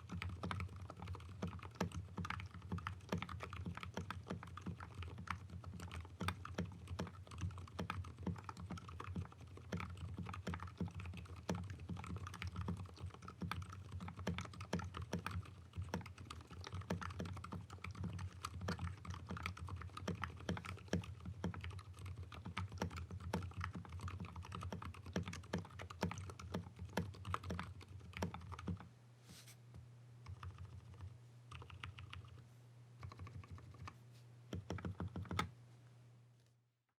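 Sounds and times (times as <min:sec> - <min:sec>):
typing on mechanical keyboard: 0:00.0 - 0:28.9, 0:30.2 - 0:32.4, 0:33.0 - 0:35.5.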